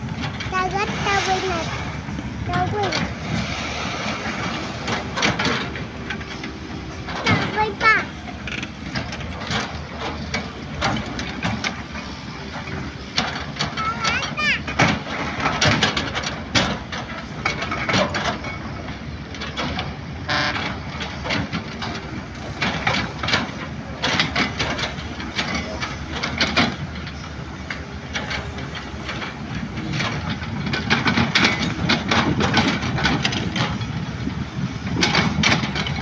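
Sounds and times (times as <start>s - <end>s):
excavator diesel engines running: 0.0s - 36.0s
metallic clanks and rattles: 0.0s - 36.0s.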